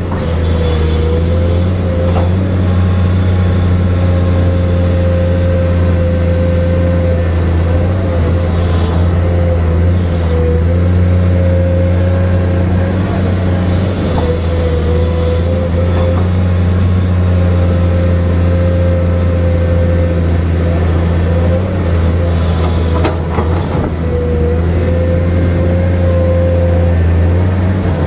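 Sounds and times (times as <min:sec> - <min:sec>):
excavator diesel engine running: 0:00.0 - 0:28.0
high hydraulic whine: 0:00.0 - 0:28.0.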